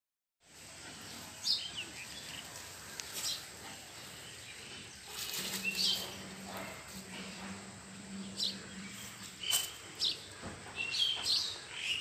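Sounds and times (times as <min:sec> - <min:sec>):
outdoor background noise: 0:00.4 - 0:12.0
birds chirping: 0:00.5 - 0:12.0.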